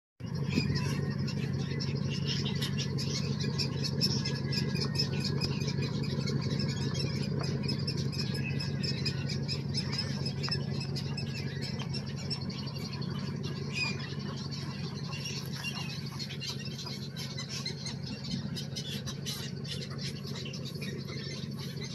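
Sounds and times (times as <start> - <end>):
steady low hum: 0.2 - 21.9
egrets calling: 0.3 - 21.9.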